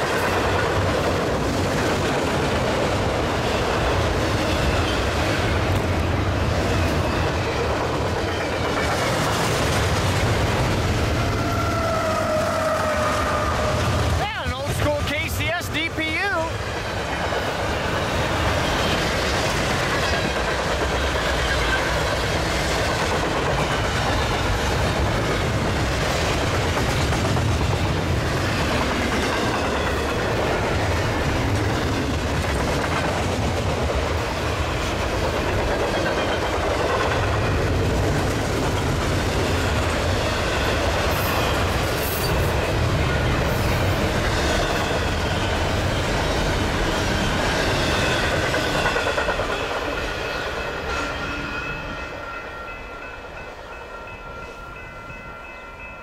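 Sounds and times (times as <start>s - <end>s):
freight train wheels clattering: 0.0s - 51.9s.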